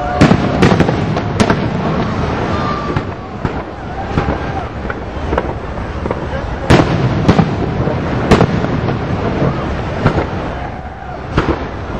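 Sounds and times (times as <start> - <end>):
fireworks popping: 0.0 - 10.6, 11.2 - 11.9
fireworks bangs: 0.0 - 11.9.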